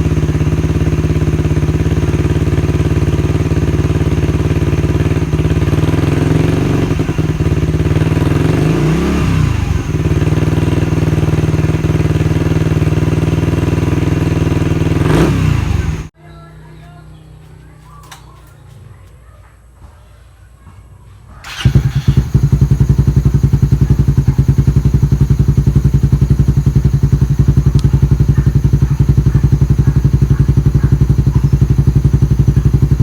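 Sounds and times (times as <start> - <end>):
engine revving: 0.0 - 16.1, 21.5 - 33.0
motorcycle engine idling: 0.0 - 16.2, 21.4 - 33.0.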